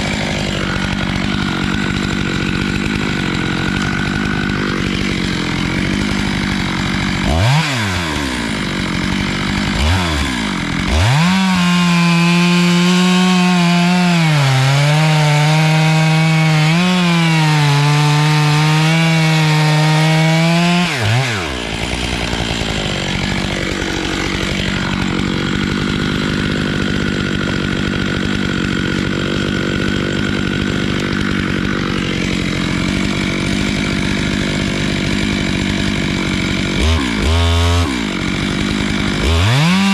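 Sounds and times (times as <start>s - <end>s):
chainsaw revving under load: 0.0s - 39.9s.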